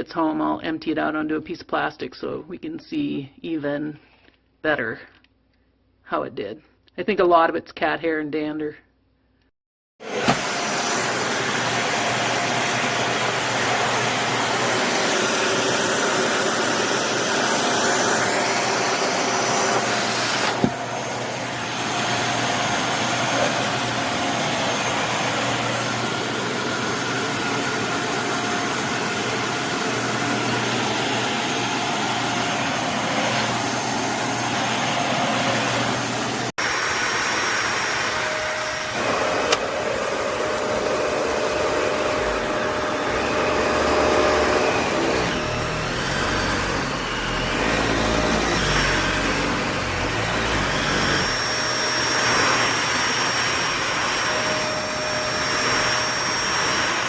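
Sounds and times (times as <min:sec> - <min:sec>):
upright vacuum cleaner running: 0:10.0 - 0:57.0.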